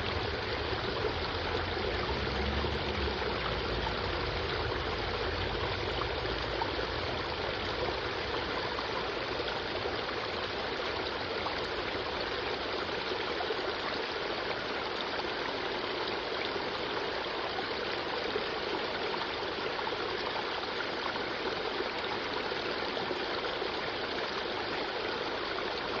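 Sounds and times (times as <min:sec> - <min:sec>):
creek flowing over rocks: 0:00.0 - 0:26.0.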